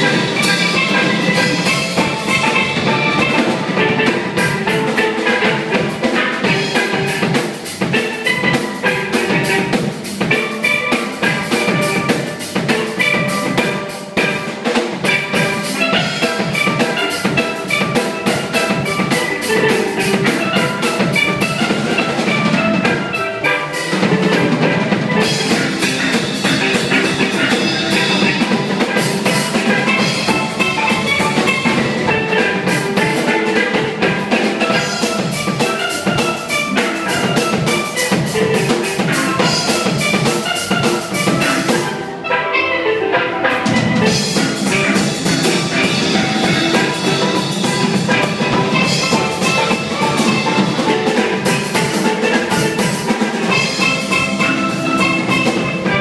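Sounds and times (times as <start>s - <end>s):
drum kit steady beat: 0.0s - 42.3s, 43.4s - 56.0s
steelpans playing melody: 0.0s - 56.0s.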